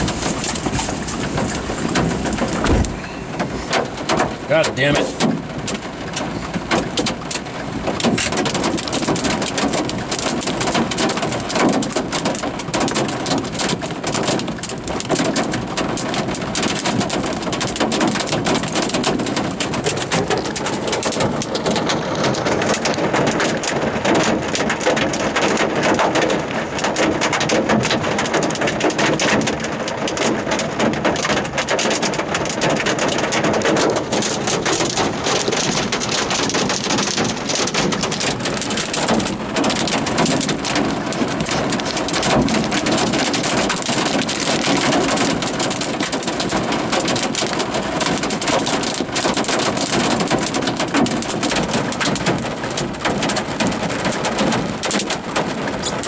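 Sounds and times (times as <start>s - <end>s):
heavy rain on a vehicle roof: 0.0s - 56.0s.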